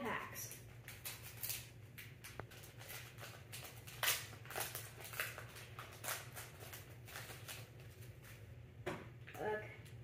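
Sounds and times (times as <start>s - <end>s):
foil wrapper crinkling: 0.4s - 8.5s.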